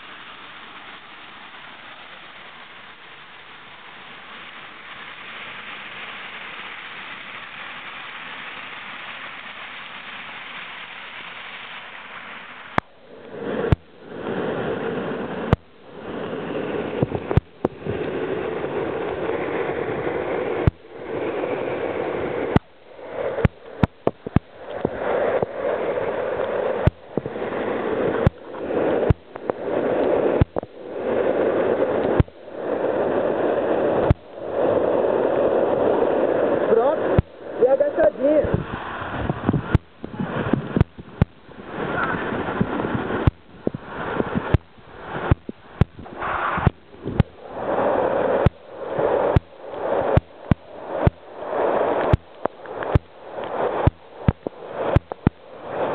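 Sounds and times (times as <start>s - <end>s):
waterfall rushing over rock: 0.0s - 55.9s.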